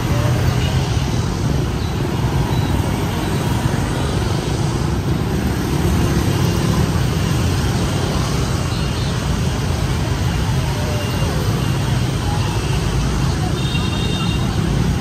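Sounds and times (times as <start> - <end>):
busy street traffic noise: 0.0 - 15.0.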